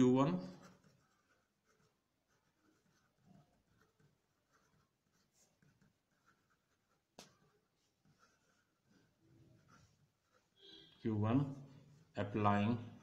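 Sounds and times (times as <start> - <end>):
pen scratching on paper: 0.0 - 10.9.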